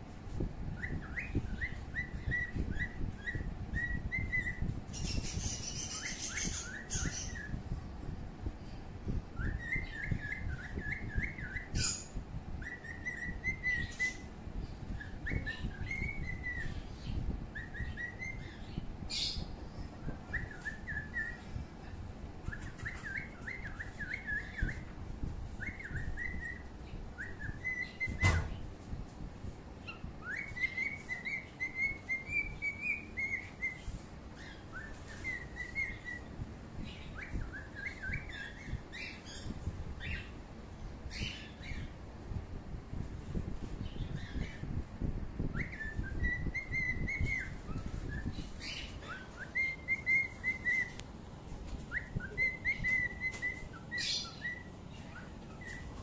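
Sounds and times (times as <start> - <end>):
birds chirping and warbling: 0.0 - 56.0.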